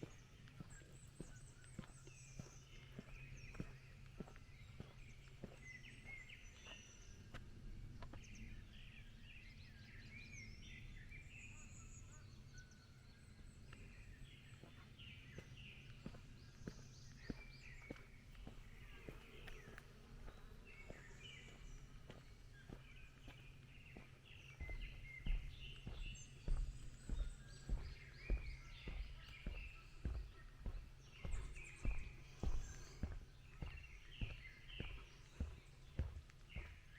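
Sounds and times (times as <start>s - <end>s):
footsteps on forest path: 0.0s - 8.4s, 13.6s - 36.9s
songbirds chirping: 0.0s - 36.9s.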